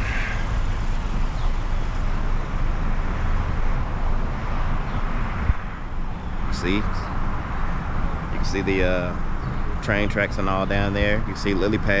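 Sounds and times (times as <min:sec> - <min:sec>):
wind noise on microphone: 0:00.0 - 0:09.9.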